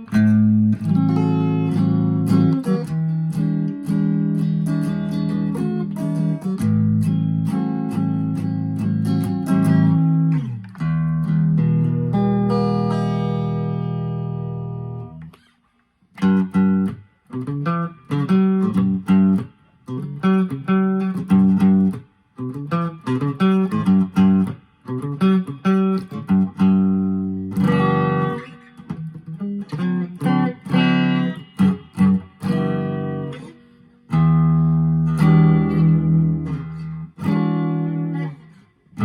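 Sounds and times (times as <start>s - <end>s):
clean electric guitar chords: 0.0s - 15.3s, 16.3s - 39.0s.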